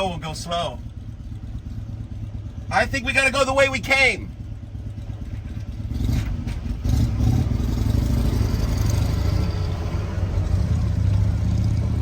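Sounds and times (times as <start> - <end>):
low engine rumble: 0.0 - 12.0
road noise: 0.0 - 12.0.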